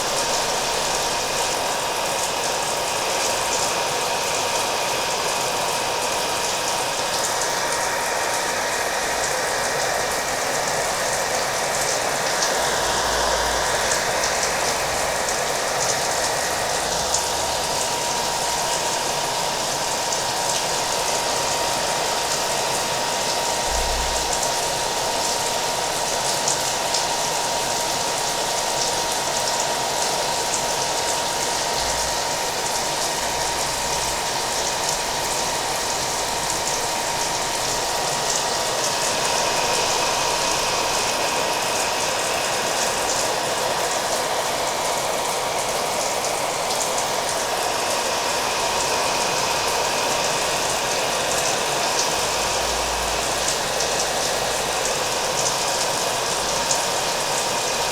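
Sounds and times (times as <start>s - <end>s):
hair dryer whining: 0.0s - 57.9s
steady rain: 0.0s - 57.9s.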